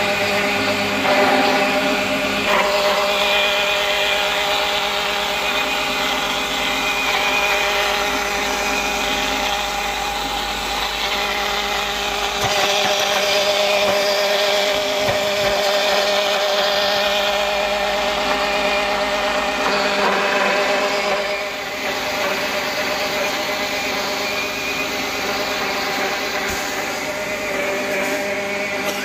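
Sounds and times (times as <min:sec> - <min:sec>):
electric grinder motor running: 0:00.0 - 0:29.0.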